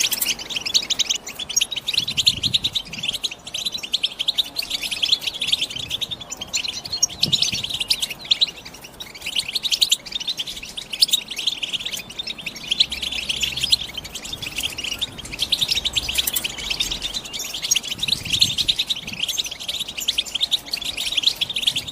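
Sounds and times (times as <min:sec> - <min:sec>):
goldfinch twittering chirps and trills: 0:00.0 - 0:21.9.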